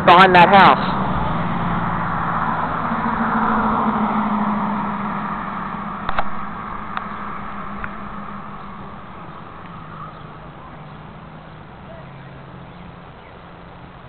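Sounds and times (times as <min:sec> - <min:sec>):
vehicle passing by: 0:00.0 - 0:14.0.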